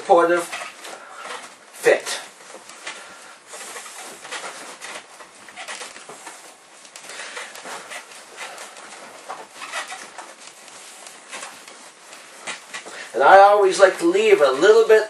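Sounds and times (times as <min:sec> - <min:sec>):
elastic bandage rustling: 0:00.0 - 0:15.0.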